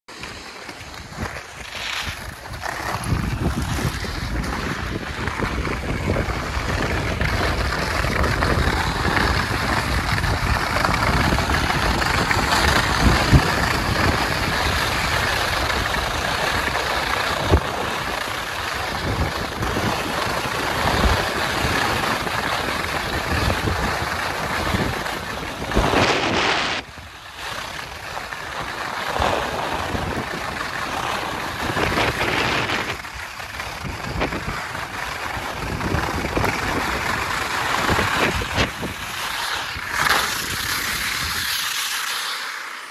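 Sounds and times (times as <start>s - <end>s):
skis scraping on hard snow: 0.1s - 42.9s
wind rushing over microphone: 0.9s - 41.8s.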